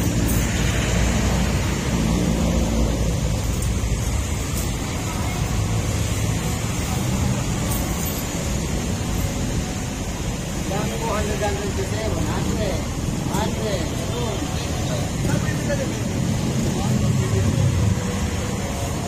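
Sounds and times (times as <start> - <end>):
city street traffic: 0.0 - 19.0
people chattering: 0.6 - 19.0.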